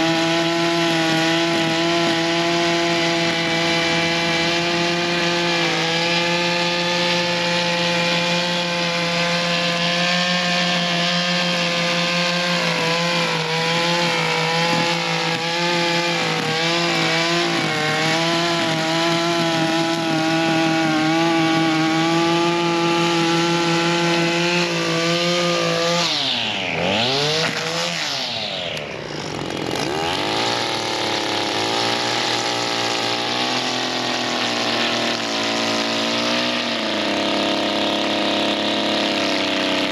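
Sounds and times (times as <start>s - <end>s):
string trimmer engine revving: 0.0s - 39.9s.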